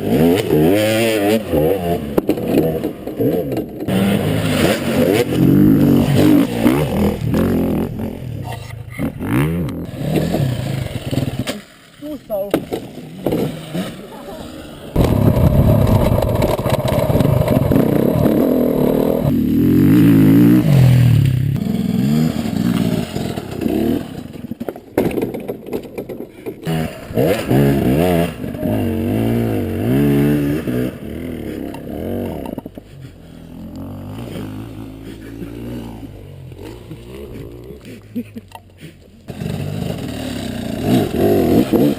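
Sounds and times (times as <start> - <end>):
dirt bike engines revving: 0.0 - 24.9, 26.2 - 41.9.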